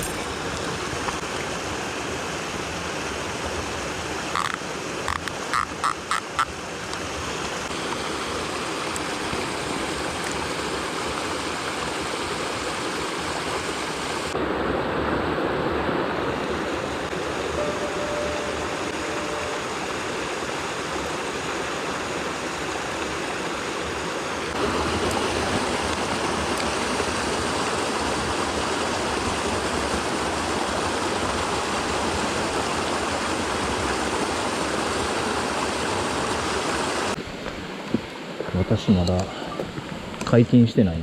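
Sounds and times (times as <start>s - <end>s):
stream water rushing: 0.0s - 40.7s.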